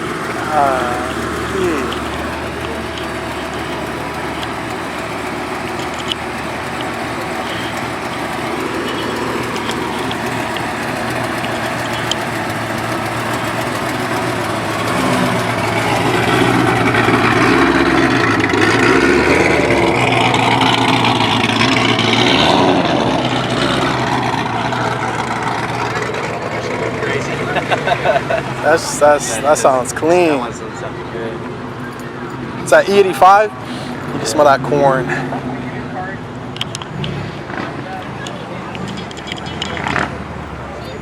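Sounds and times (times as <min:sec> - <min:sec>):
car engine and exhaust humming: 0:00.0 - 0:41.0.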